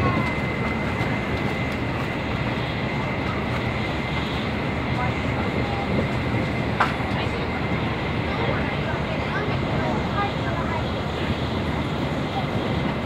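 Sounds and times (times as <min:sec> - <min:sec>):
train cabin rumble and rush: 0:00.0 - 0:13.0.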